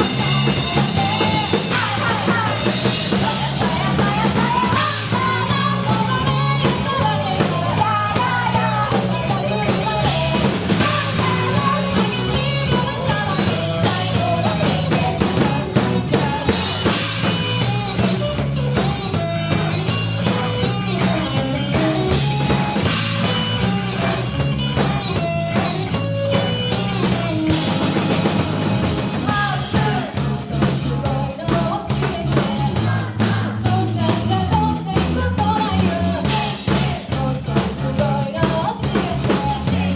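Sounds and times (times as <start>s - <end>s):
drum kit beat: 0.0s - 39.9s
low bass line: 0.0s - 39.9s
rock band playing: 0.0s - 39.9s.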